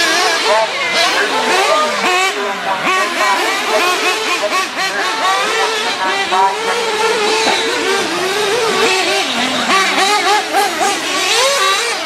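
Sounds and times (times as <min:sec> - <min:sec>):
small two-stroke engines racing: 0:00.0 - 0:12.0.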